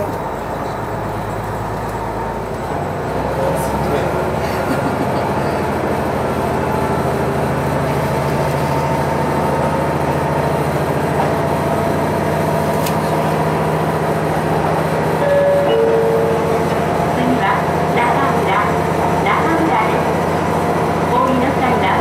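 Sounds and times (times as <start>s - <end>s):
train motor drone: 0.0s - 22.0s
wheels rumbling on rail: 0.0s - 22.0s.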